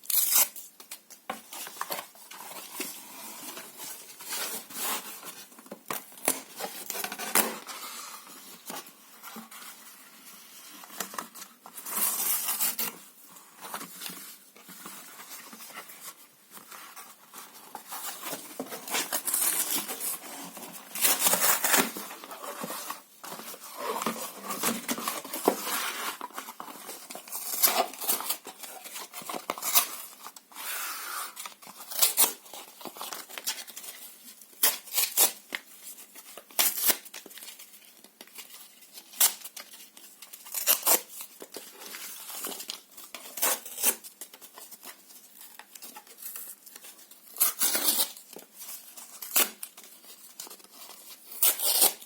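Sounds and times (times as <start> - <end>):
paper crinkling and rustling: 0.0 - 52.0.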